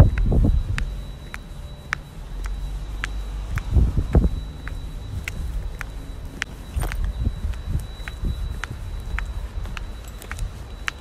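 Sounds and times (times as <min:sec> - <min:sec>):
footsteps clicking: 0:00.0 - 0:11.0
low steady rumble: 0:00.0 - 0:11.0.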